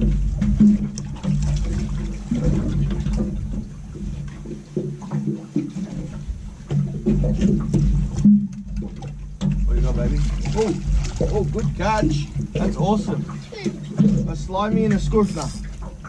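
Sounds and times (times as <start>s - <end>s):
low rumble of wind: 0.0s - 16.0s
water slapping boat hull: 0.0s - 16.0s.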